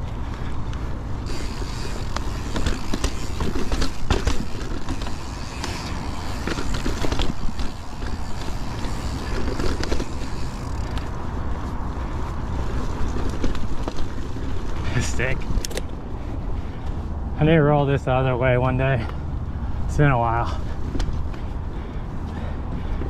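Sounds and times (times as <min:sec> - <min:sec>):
bike clattering and rattling: 0:00.0 - 0:18.0, 0:18.6 - 0:23.0
tyre noise on dirt: 0:00.0 - 0:23.0.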